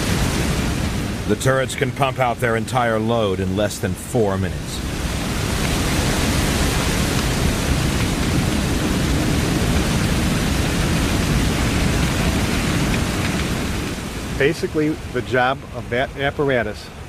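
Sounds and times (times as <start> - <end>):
water cannon spraying: 0.0 - 15.0.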